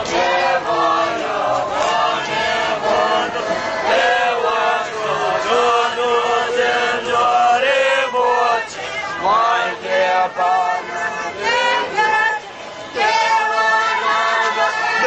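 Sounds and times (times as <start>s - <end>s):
crowd of monks chanting: 0.0s - 15.0s.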